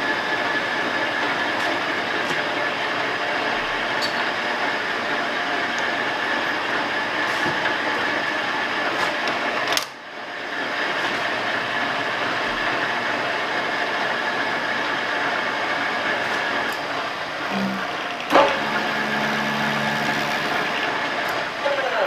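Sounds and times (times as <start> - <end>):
metal lathe running with high whine: 0.0 - 22.0.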